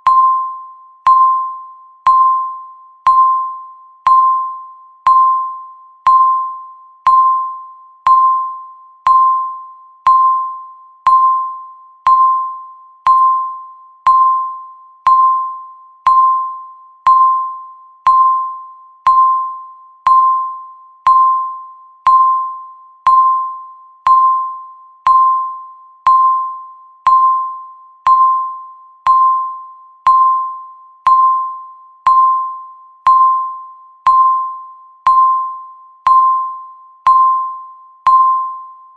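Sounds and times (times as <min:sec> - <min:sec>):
countdown timer beeps: 0:00.0 - 0:38.9.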